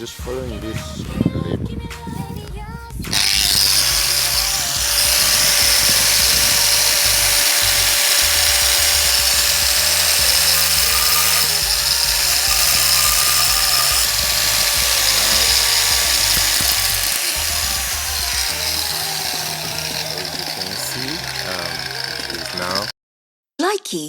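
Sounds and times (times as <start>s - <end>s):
background music: 0.0s - 22.9s
angle grinder grinding: 3.1s - 22.9s.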